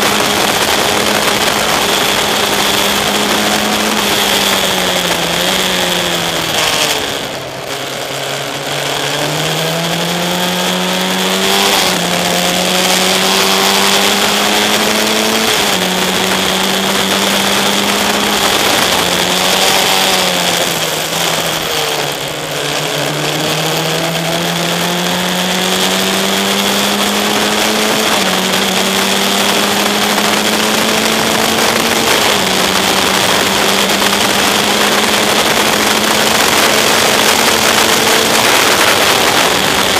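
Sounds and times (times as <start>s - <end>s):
race car engine shifting gears: 0.0s - 39.9s.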